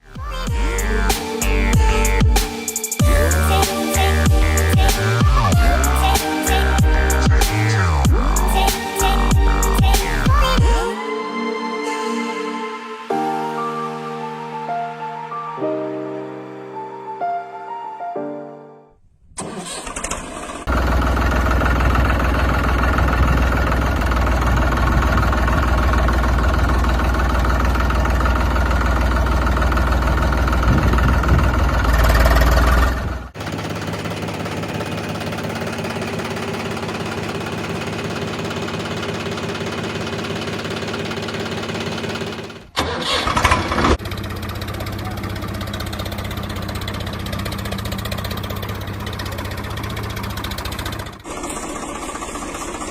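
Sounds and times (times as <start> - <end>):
engine starting and running: 0.0 - 10.9, 19.3 - 52.9.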